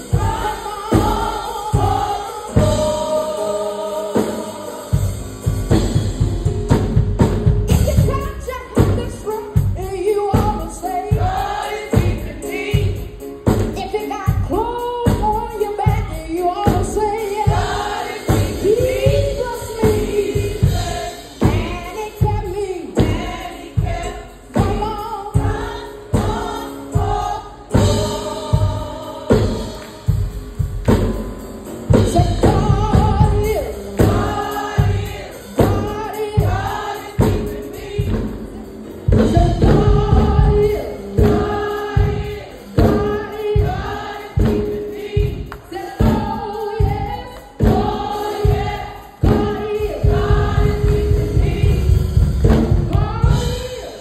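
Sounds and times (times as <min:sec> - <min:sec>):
group singing gospel: 0:00.0 - 0:07.0, 0:08.8 - 0:14.0, 0:15.0 - 0:54.0
steady beat: 0:00.0 - 0:13.4, 0:16.8 - 0:53.8.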